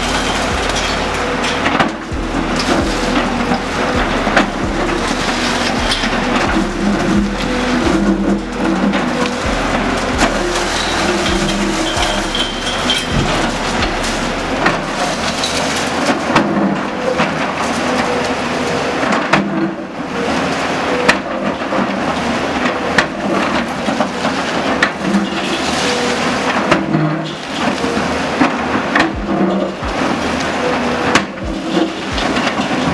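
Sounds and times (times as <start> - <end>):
diesel engine running: 0.0 - 32.9
falling rubble crashing: 0.0 - 32.9.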